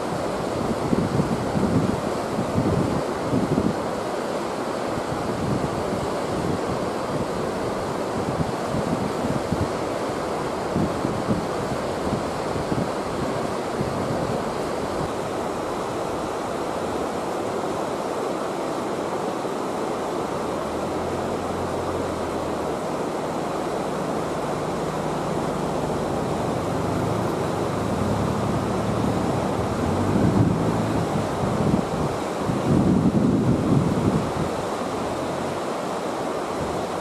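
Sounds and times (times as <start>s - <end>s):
wind rumbling on microphone: 0.0s - 3.9s, 5.0s - 17.0s, 20.5s - 35.6s
river water rushing over weir: 0.0s - 37.0s.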